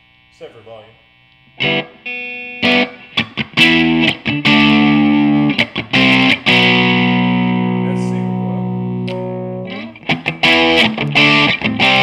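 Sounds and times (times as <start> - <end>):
distorted electric guitar chords: 1.5 - 12.0.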